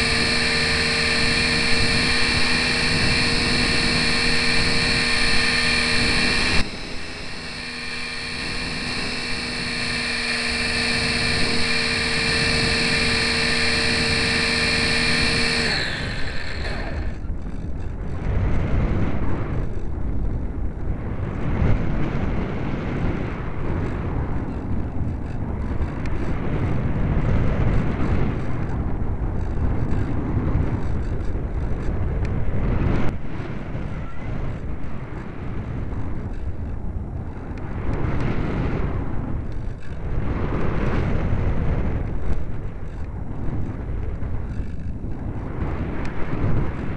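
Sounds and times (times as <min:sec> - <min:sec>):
electric motor and propeller whining: 0:00.0 - 0:46.9
wind rushing over microphone: 0:00.0 - 0:46.9.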